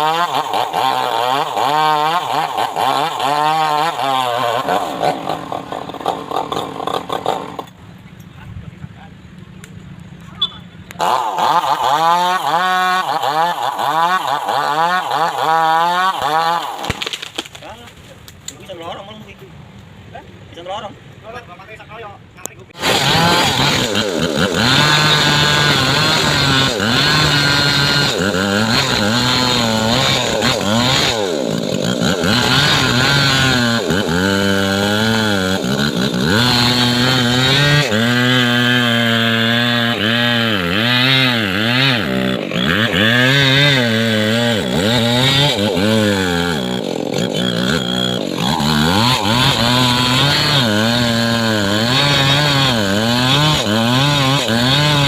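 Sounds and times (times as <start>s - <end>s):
chainsaw cutting wood: 0.0s - 7.8s, 11.0s - 17.7s, 22.8s - 55.0s.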